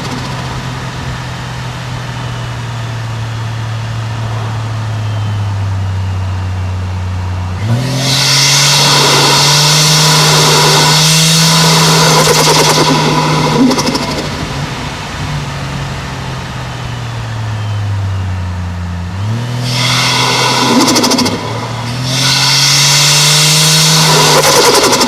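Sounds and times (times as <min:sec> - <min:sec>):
turbo rushing hiss: 0:00.0 - 0:05.2, 0:07.6 - 0:17.9, 0:19.3 - 0:25.0
car engine and exhaust: 0:00.0 - 0:25.0.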